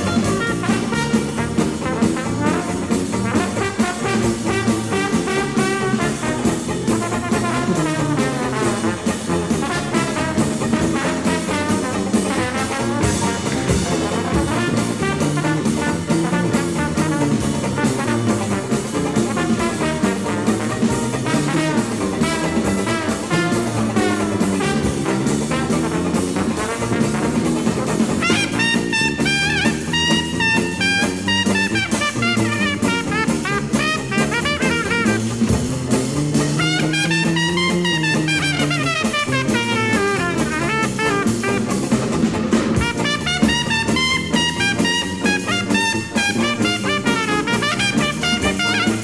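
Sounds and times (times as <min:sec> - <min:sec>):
jazz music with brass and drums: 0:00.0 - 0:49.0.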